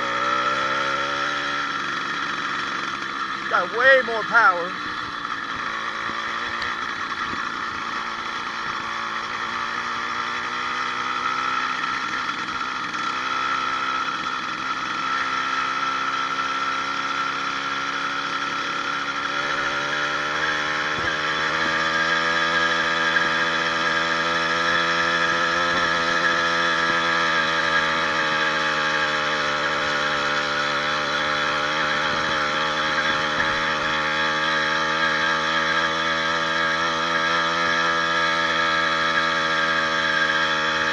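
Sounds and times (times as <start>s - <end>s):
two-stroke bicycle engine running: 0.0s - 40.9s.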